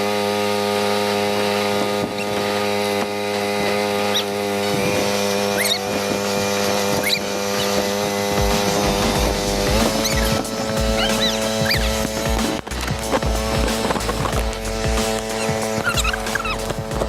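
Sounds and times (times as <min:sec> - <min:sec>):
small engine running: 0:00.0 - 0:17.0
short high squeaks: 0:01.5 - 0:17.0.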